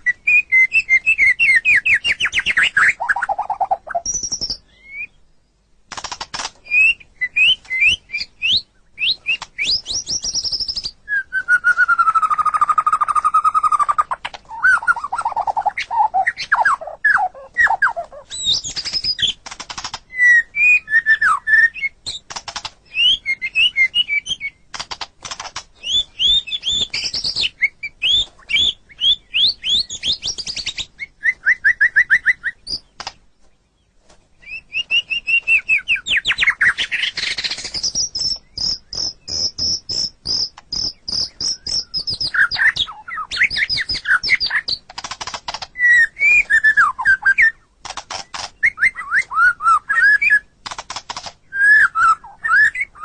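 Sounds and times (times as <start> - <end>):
songbird singing varied song: 0.0 - 53.0.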